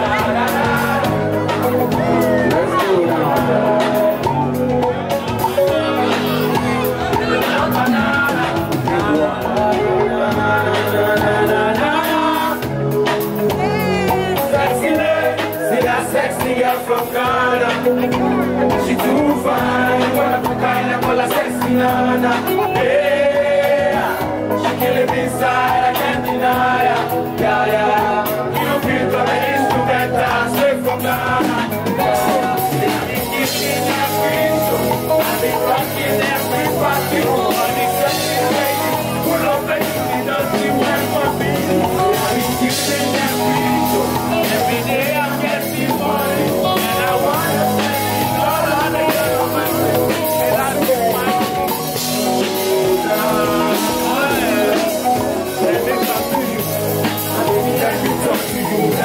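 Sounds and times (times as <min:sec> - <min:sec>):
man singing and rapping: 0:00.0 - 0:59.0.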